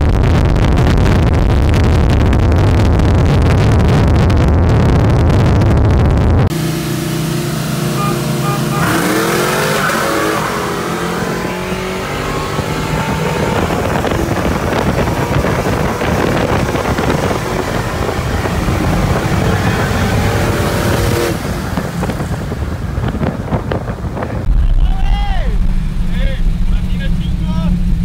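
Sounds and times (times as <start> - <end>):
road and wind noise: 0.0 - 28.0
truck engine accelerating hard: 0.2 - 24.5.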